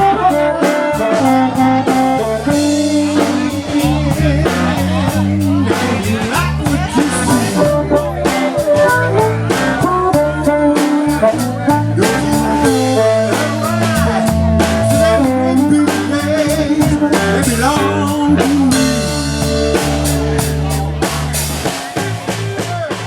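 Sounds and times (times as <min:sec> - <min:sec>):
blues song with vocals: 0:00.0 - 0:23.0
drums: 0:00.0 - 0:23.0
guitar: 0:00.0 - 0:23.0.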